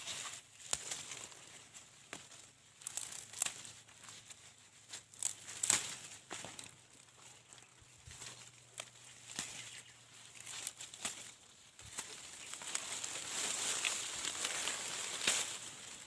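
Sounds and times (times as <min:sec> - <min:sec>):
dry corn husks crackling: 0:00.0 - 0:16.0.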